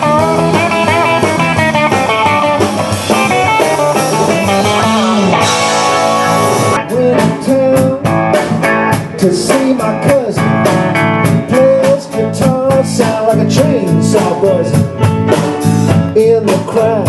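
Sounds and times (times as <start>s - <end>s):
bass guitar: 0.0s - 17.0s
drums with cymbals: 0.0s - 17.0s
electric guitar: 0.0s - 17.0s.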